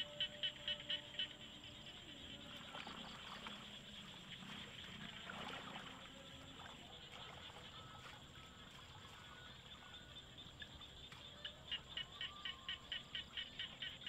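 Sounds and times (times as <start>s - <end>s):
water sloshing and trickling: 0.0s - 14.0s.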